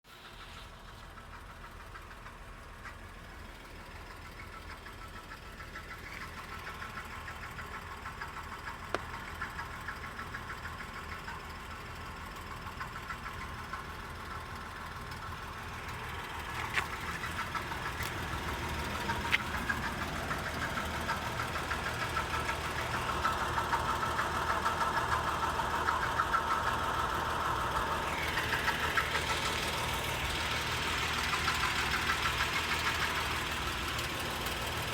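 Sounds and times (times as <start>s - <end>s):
car engine running: 0.1s - 34.9s
fast rattle: 0.1s - 34.9s.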